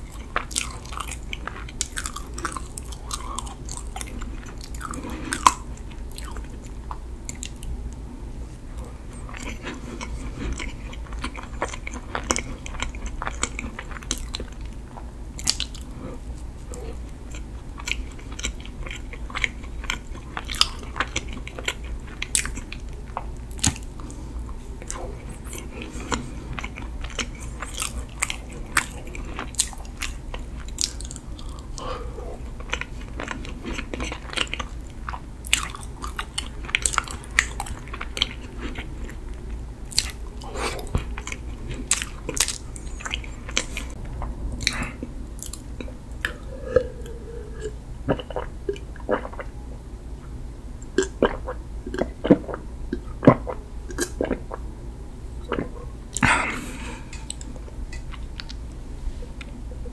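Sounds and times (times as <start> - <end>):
moist chewing of cake: 0.0 - 7.8, 8.7 - 44.0, 44.6 - 49.5, 50.8 - 54.6, 55.4 - 58.6.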